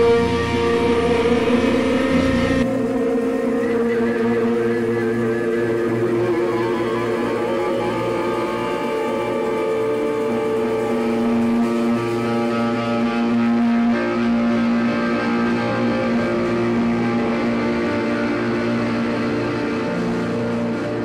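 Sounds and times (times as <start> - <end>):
electric guitars droning: 0.0 - 21.0
low drone: 0.0 - 21.0.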